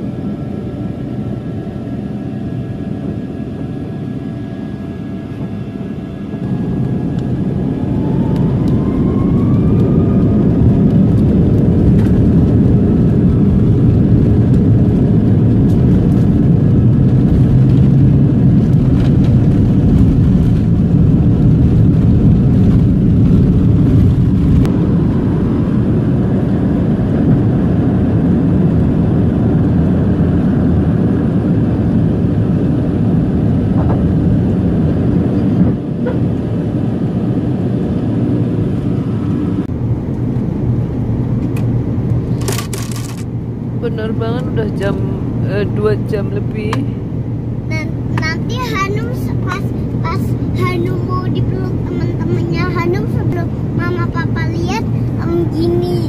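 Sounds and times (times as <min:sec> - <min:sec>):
jet engines whining: 0:00.0 - 0:56.0
loud low engine rumble: 0:00.0 - 0:56.0.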